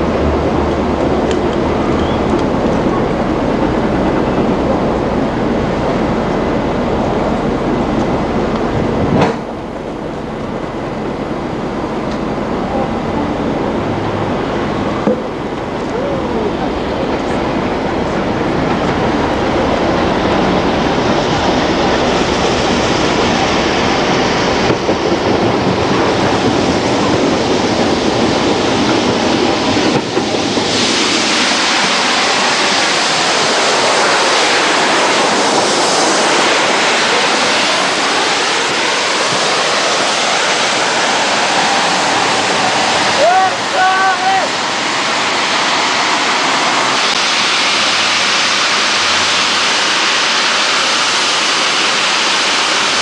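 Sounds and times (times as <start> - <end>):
steam train rumbling past: 0.0 - 53.0.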